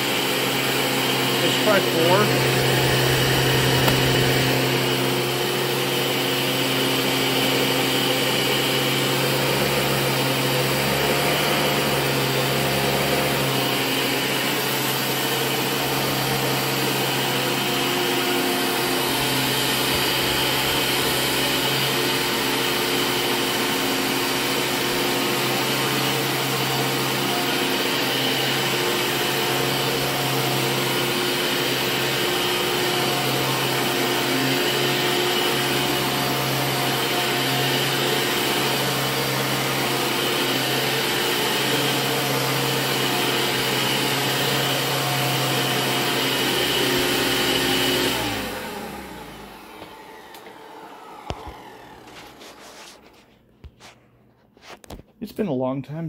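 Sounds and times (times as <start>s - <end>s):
vacuum cleaner on carpet: 0.0s - 54.0s.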